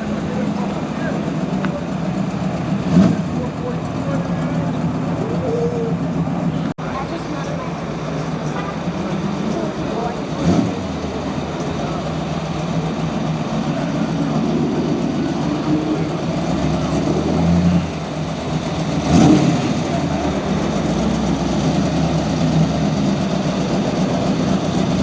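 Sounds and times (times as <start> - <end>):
background voices: 0.0 - 25.0
car engines idling: 0.0 - 25.0.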